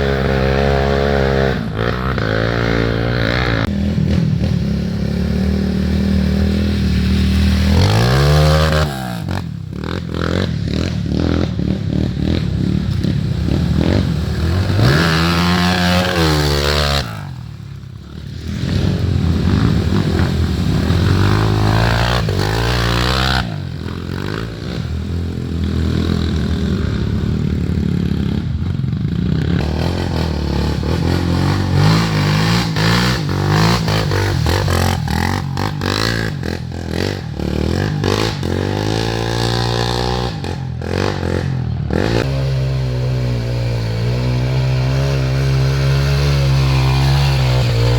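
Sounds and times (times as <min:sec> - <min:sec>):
motorcycle engines revving: 0:00.0 - 0:47.9.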